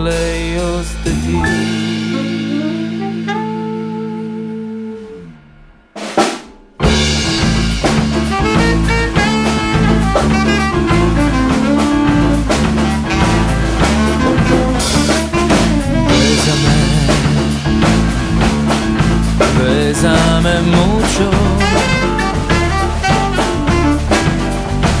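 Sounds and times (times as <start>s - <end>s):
drum kit and bass beat: 0.0s - 4.6s, 6.0s - 25.0s
jazz band playing: 0.0s - 5.4s, 6.0s - 25.0s.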